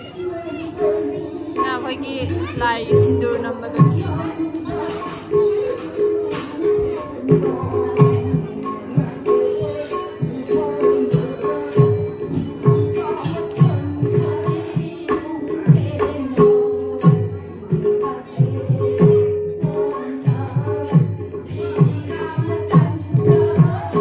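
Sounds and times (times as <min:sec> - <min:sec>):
small cymbals ringing: 0:01.5 - 0:05.9, 0:08.0 - 0:24.0
barrel drum beating: 0:01.6 - 0:24.0.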